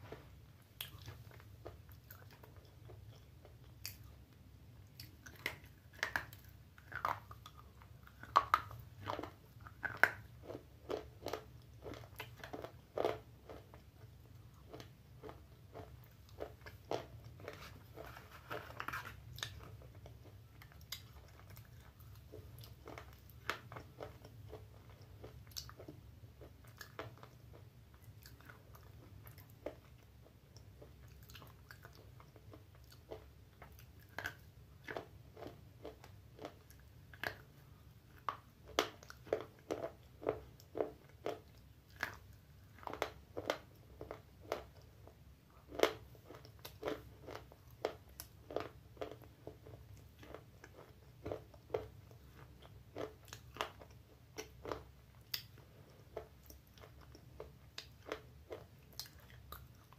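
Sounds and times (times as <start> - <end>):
gritty chewing crunches: 5.0 - 30.0, 30.8 - 44.8, 45.6 - 59.9.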